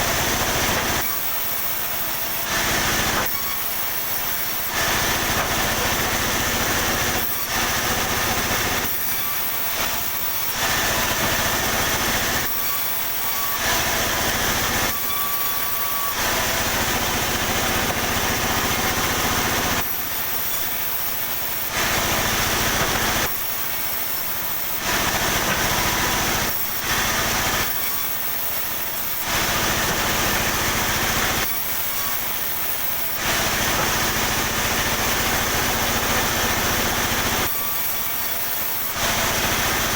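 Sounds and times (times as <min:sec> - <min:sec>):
saw cutting timber: 0:00.0 - 0:39.9
saw machine humming: 0:00.0 - 0:39.9.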